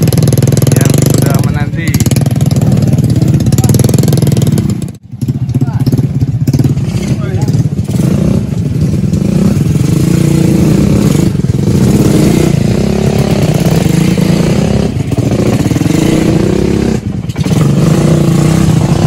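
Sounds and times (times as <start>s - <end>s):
motorcycle engines running: 0.0s - 19.0s.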